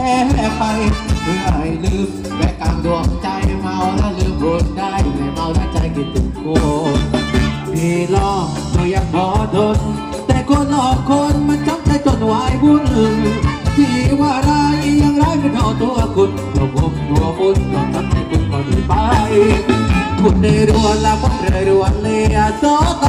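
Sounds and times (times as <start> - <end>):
live band dance music: 0.0 - 23.0
person singing: 0.0 - 23.0
steady drum beat: 0.0 - 23.0.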